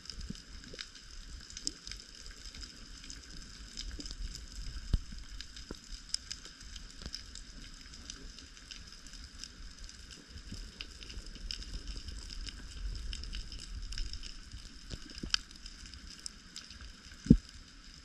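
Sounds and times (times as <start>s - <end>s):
low underwater rumble: 0.0s - 18.0s
underwater crackle of clicks: 0.0s - 18.0s.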